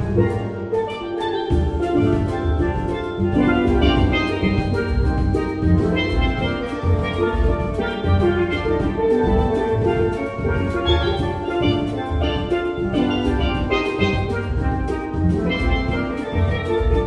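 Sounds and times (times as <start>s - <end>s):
steel pans playing melody: 0.0s - 17.0s
drum kit beat: 1.5s - 17.0s.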